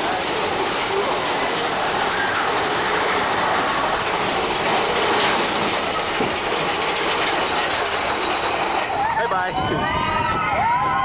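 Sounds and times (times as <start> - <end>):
roller coaster cars rattling: 0.0 - 11.0.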